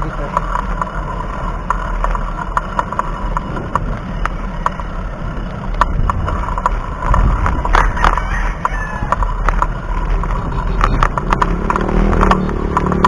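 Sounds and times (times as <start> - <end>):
light regular ticking: 0.0 - 13.0
wind and road noise: 0.0 - 13.0.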